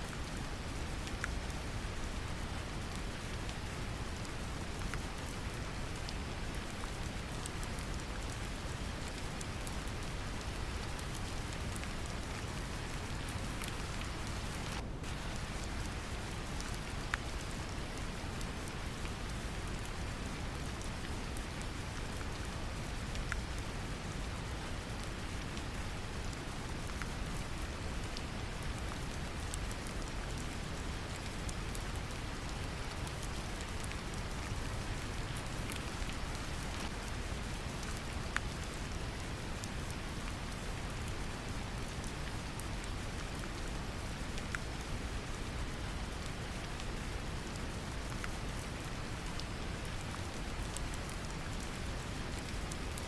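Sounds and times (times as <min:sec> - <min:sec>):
gentle rain: 0:00.0 - 0:53.0.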